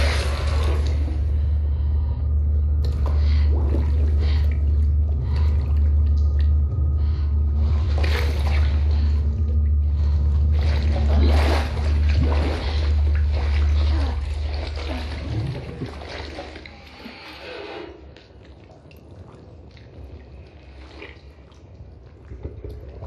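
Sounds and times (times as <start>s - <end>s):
deep rumbling drone: 0.0s - 23.0s
liquid sloshing and dripping: 0.0s - 23.0s.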